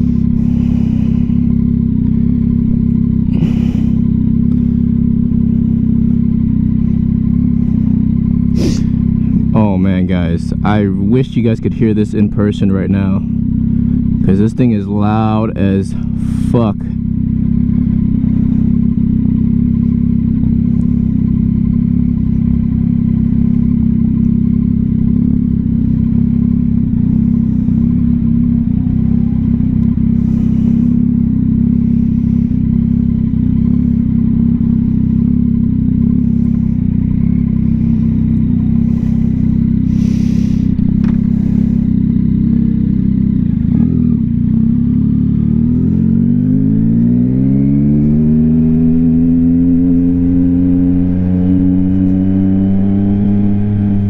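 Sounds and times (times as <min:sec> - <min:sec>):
motorcycle engine running loud: 0:00.0 - 0:54.0.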